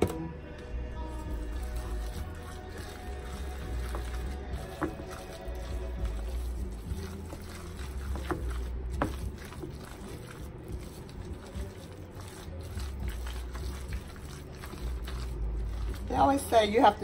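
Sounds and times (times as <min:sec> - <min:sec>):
spoon squishing and scraping salad: 0:01.0 - 0:17.0.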